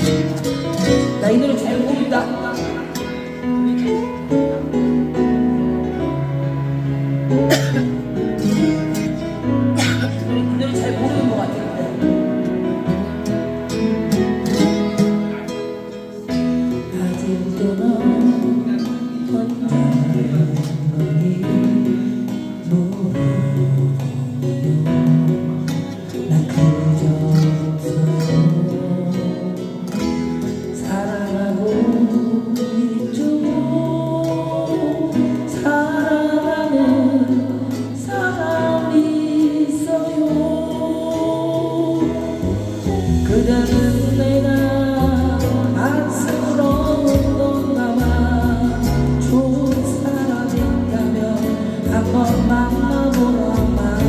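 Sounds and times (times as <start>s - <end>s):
karaoke backing track: 0.0s - 54.0s
person singing a slow ballad: 0.0s - 54.0s.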